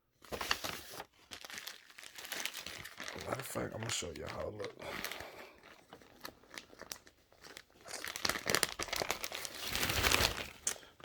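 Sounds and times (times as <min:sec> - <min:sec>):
packaging crinkling: 0:00.2 - 0:11.0.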